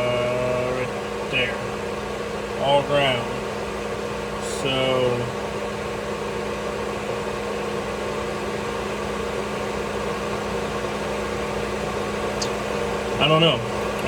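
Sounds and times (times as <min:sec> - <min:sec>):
electric fan whirring: 0:00.0 - 0:14.0.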